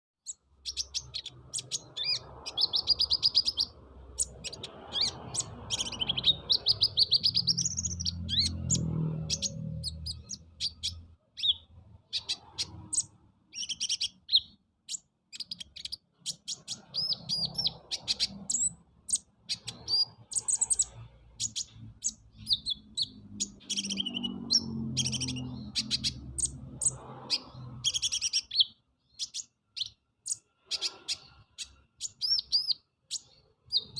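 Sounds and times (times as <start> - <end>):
sunbird singing chirps and trills: 0.2 - 33.9.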